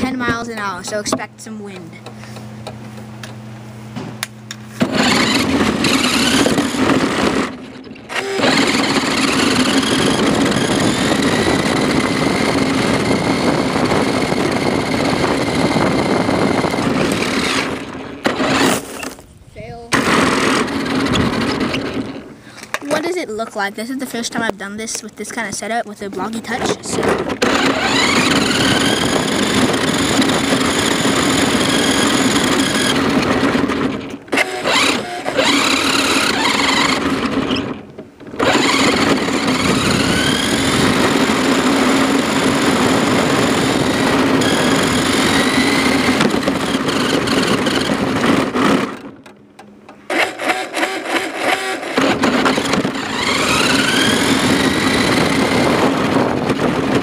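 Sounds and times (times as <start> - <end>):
toy car motor whining: 4.8 - 19.2, 19.9 - 23.1, 26.2 - 37.8, 38.4 - 49.1, 50.1 - 57.0.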